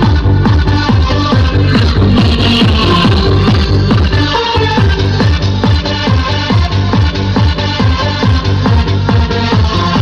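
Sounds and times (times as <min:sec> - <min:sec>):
electronic dance music with heavy bass: 0:00.0 - 0:10.0.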